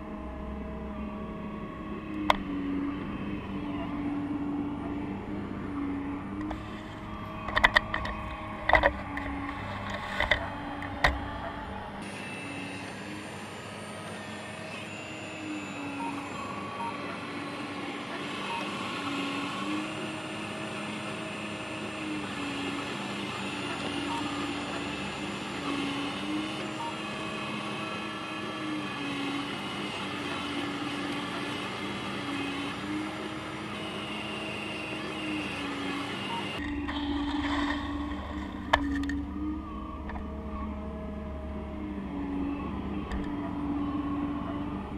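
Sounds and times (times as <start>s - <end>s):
hydraulic pump whine: 0.0s - 44.9s.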